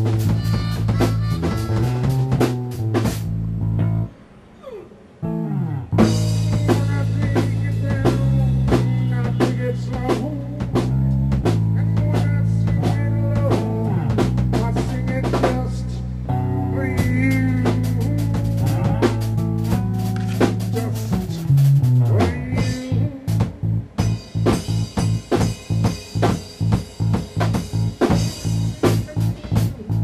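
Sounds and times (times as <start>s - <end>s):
drum kit playing a groove: 0.0s - 4.0s, 6.0s - 30.0s
funk rock band music: 0.0s - 4.3s, 5.2s - 30.0s
electric bass notes: 0.0s - 4.4s, 5.2s - 30.0s.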